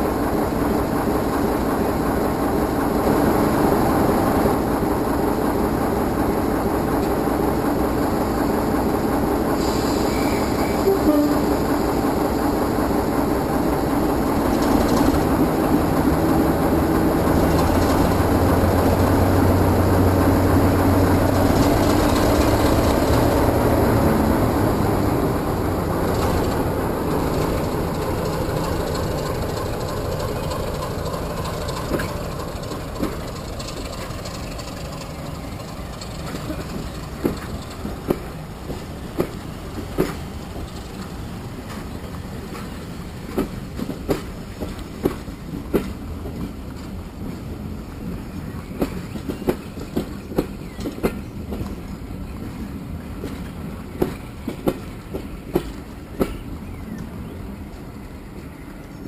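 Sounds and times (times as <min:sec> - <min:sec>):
train wheels clicking over rail joints: 0:00.0 - 0:57.2
locomotive engine rumble: 0:00.0 - 0:59.0
train rolling rumble: 0:00.0 - 0:59.0.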